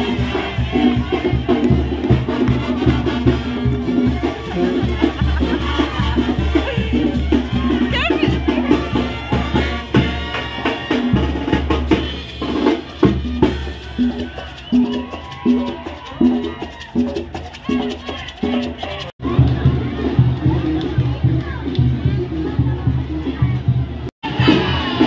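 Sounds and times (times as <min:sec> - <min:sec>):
brass band with drums: 0:00.0 - 0:25.0.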